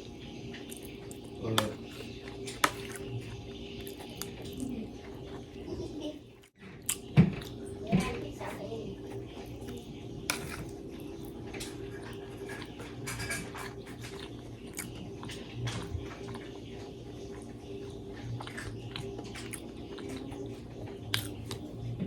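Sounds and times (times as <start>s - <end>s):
person chewing and eating: 0.0s - 5.8s, 6.4s - 7.8s, 9.0s - 22.0s.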